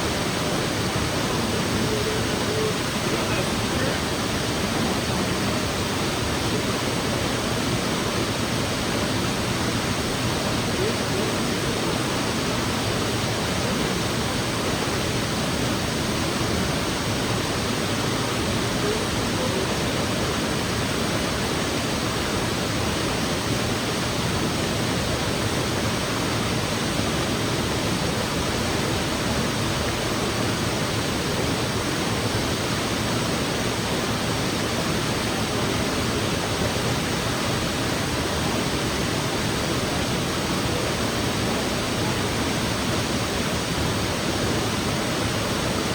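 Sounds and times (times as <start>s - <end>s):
waterfall rushing into pool: 0.0s - 45.9s.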